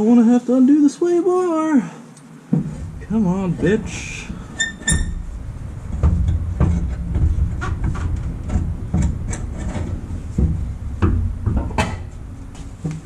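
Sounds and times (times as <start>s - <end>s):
metal clunks and knocks: 2.5s - 13.0s.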